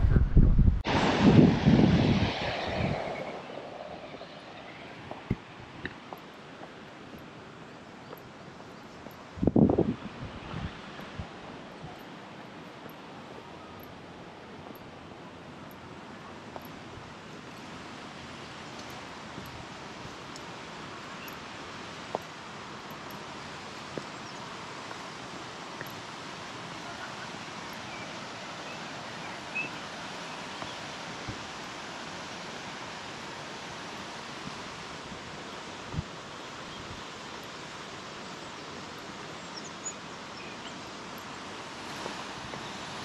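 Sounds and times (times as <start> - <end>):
river water rushing over rapids: 3.4 - 43.0.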